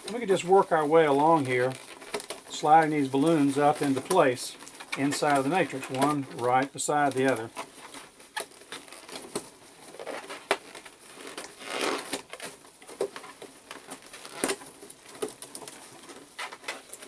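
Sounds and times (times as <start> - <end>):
balloons squeaking and rubbing: 0.0 - 17.0
plastic netting rustling: 0.0 - 17.0.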